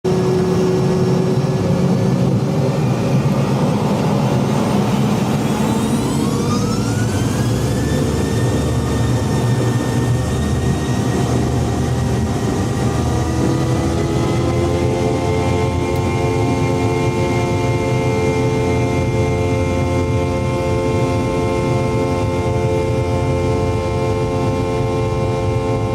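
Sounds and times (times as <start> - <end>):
jet engine whine rising: 0.1 - 25.9
jet engines running loud: 0.1 - 25.9.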